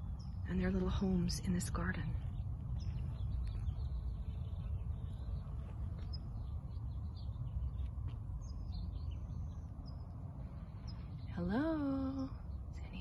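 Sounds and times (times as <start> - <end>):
low microphone rumble: 0.0 - 13.0
small birds chirping faintly: 0.0 - 13.0.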